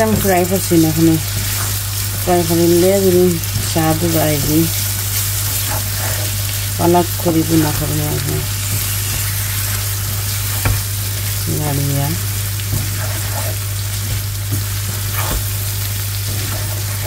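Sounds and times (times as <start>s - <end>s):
fish sizzling in a pan: 0.0s - 17.0s.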